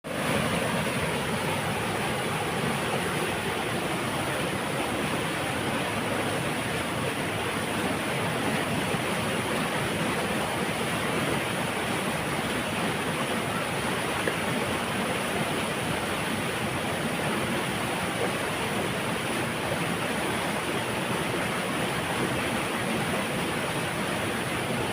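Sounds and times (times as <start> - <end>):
water rushing through a dam: 0.1 - 24.9.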